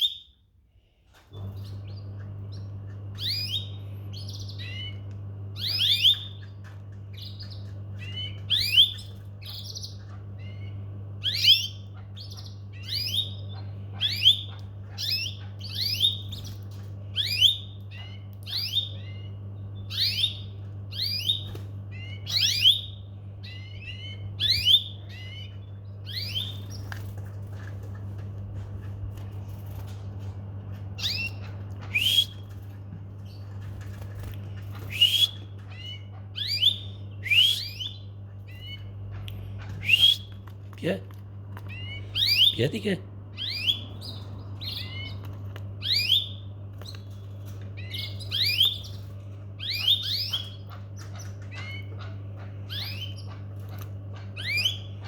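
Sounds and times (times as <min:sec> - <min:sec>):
canaries chirping: 0:00.0 - 0:00.4, 0:01.4 - 0:55.0
steady low hum: 0:00.0 - 0:55.0.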